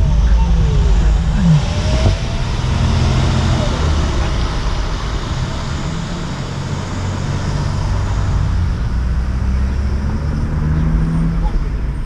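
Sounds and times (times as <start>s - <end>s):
vehicle engine humming: 0.0s - 12.0s
road noise hiss: 0.3s - 12.0s.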